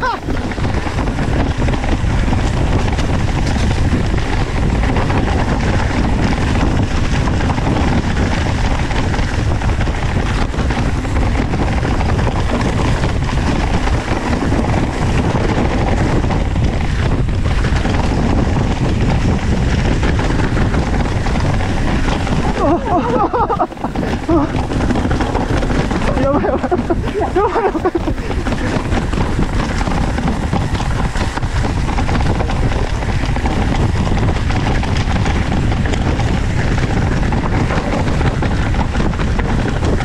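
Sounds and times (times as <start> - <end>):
bike rattling: 0.0 - 40.0
tyres rolling over dirt: 0.0 - 40.0
wind buffeting microphone: 0.0 - 40.0.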